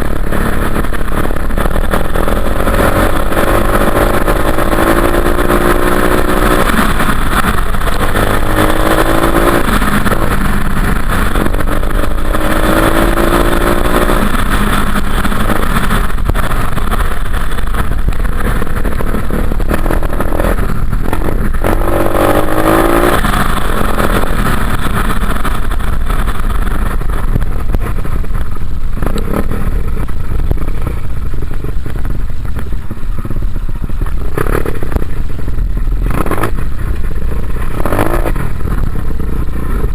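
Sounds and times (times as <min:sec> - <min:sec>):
dirt bike engine revving: 0:00.0 - 0:28.1, 0:35.9 - 0:39.9
steady rushing noise: 0:00.0 - 0:39.9.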